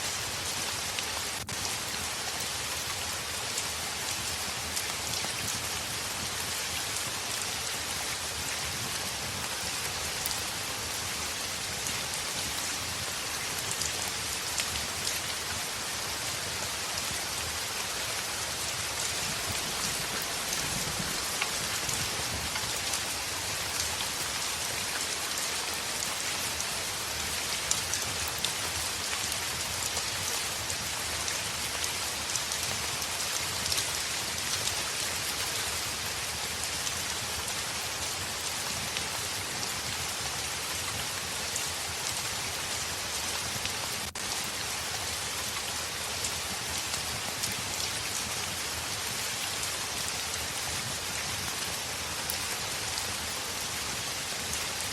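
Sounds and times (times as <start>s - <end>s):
heavy rain on a window: 0.0s - 54.9s.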